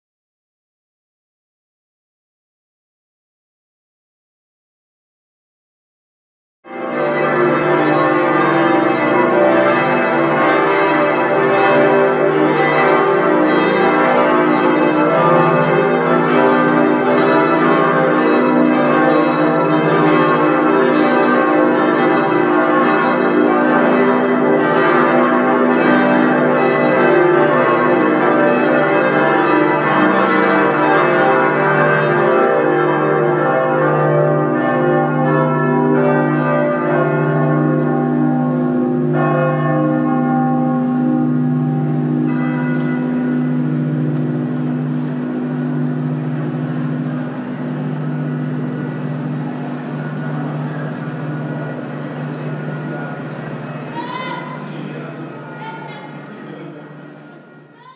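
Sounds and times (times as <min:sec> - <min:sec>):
church bells pealing: 0:06.7 - 0:57.9.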